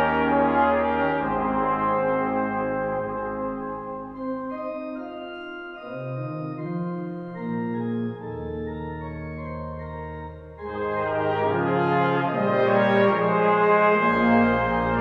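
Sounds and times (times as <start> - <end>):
digital organ chords: 0.0 - 15.0.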